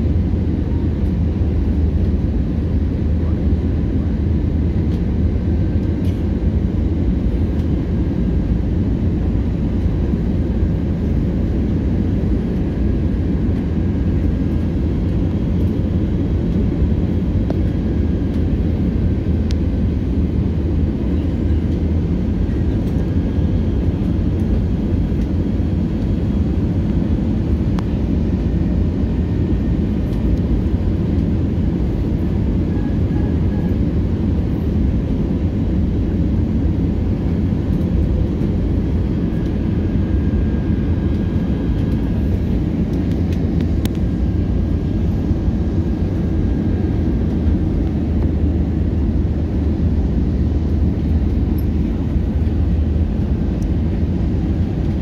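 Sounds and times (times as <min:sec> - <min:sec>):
airliner cabin rumble: 0:00.0 - 0:55.0
faint steady whine: 0:00.0 - 0:55.0.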